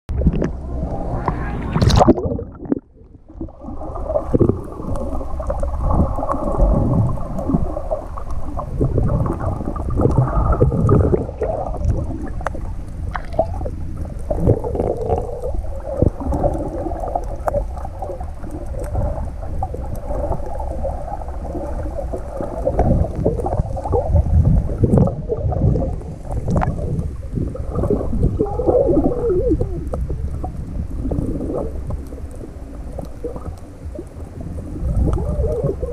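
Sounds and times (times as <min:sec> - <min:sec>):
faint steady hum: 0:00.1 - 0:35.9
muffled underwater sloshing: 0:00.1 - 0:35.9.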